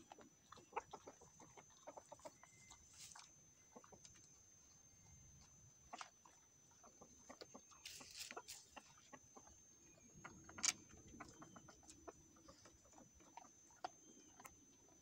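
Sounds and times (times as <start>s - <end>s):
rooster clucking softly: 0.0s - 4.4s, 5.9s - 15.0s.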